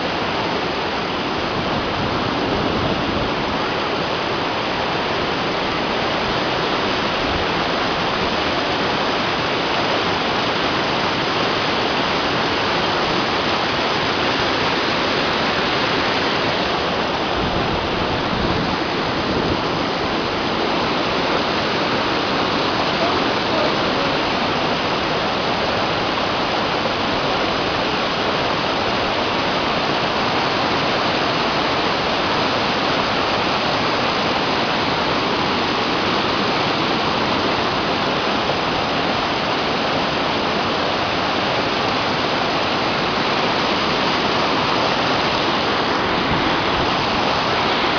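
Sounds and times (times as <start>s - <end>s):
waterfall rushing over boulders: 0.0s - 47.9s.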